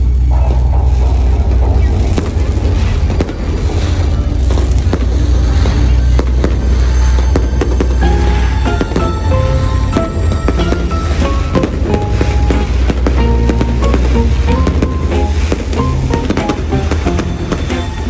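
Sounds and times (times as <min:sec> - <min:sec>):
fireworks bangs and crackles: 0:01.7 - 0:18.0.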